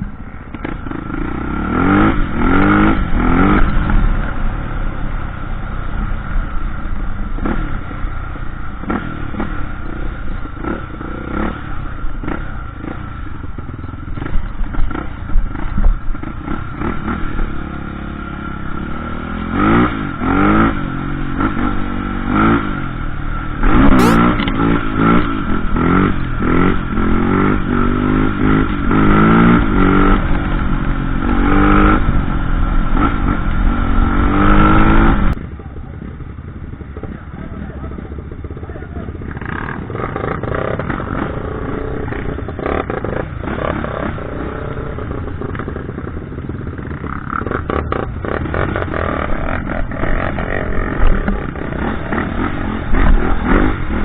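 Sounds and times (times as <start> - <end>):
dirt bike engine revving: 0.5 - 4.5, 8.5 - 35.4, 37.0 - 54.0.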